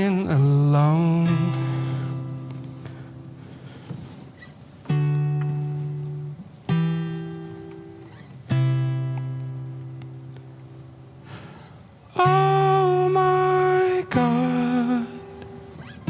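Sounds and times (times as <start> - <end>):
strummed guitar chords: 0.0 - 16.0.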